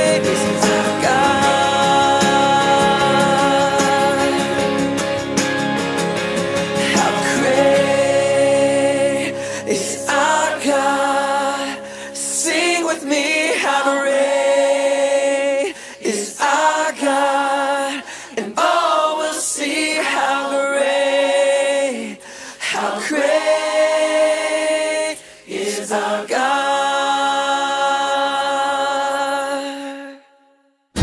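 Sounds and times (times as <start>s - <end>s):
a cappella singing: 0.0s - 5.0s, 6.8s - 31.0s.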